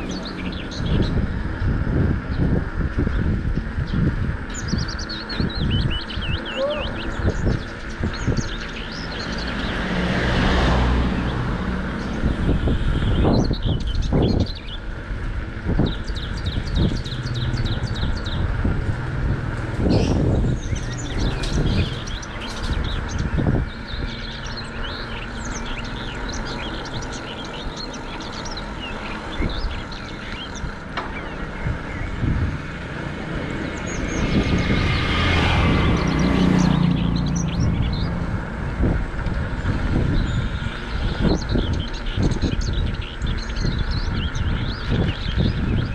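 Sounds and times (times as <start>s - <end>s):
birds chirping: 0.0s - 45.9s
tyre and road noise of passing vehicle: 0.0s - 45.9s.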